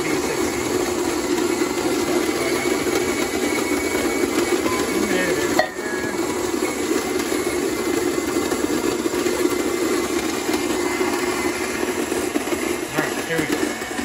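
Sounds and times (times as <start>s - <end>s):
coffee grinder motor running: 0.0s - 14.0s.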